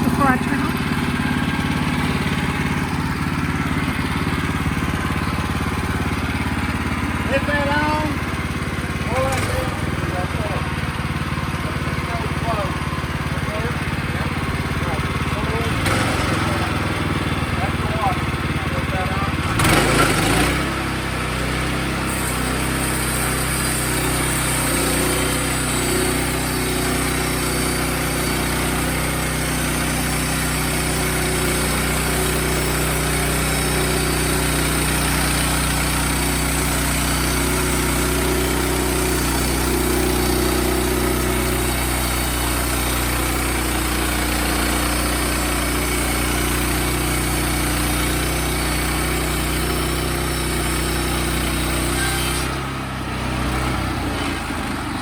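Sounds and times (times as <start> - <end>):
sawmill engine running: 0.0 - 55.0.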